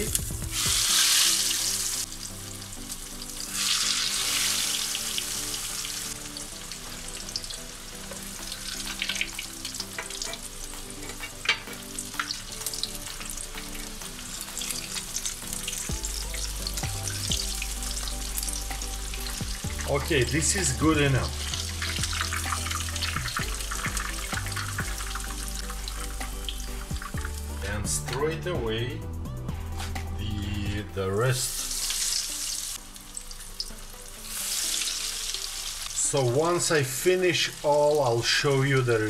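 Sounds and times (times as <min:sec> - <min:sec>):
chicken sizzling in hot oil: 0:00.0 - 0:27.7, 0:31.2 - 0:39.0
oil crackling: 0:00.0 - 0:27.8, 0:31.4 - 0:39.0.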